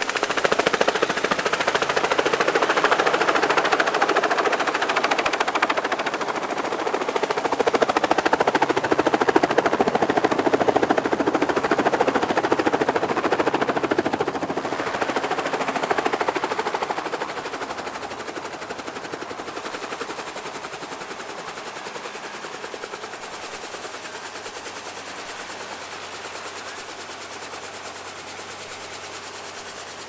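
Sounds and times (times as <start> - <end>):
helicopter rotor blades thumping: 0.0 - 30.0.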